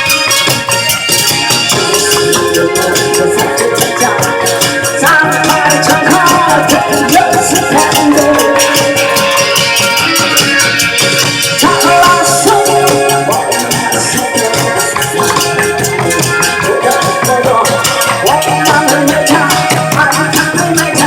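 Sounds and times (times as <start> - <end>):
fast rattling percussion beat: 0.0 - 21.0
upbeat music: 0.0 - 21.0.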